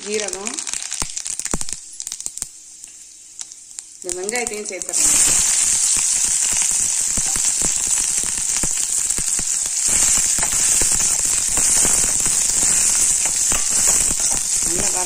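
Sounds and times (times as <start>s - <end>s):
crackles and clicks: 0.0s - 15.0s
onions sizzling in hot oil: 0.0s - 15.0s.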